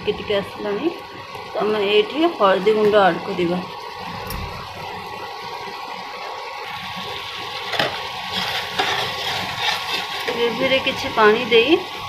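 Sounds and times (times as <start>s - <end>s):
gravy bubbling and sizzling in a pan: 0.0s - 12.0s.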